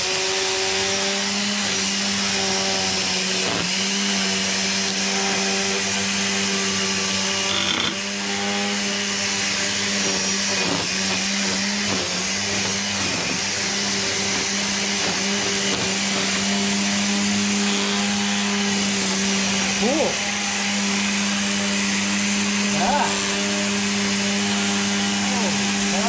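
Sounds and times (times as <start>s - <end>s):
string trimmer whining: 0.0s - 26.0s.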